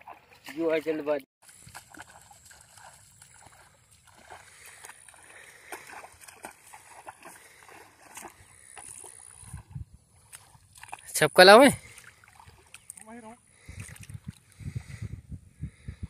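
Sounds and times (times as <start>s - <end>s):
feet wading through shallow water: 0.0s - 15.0s.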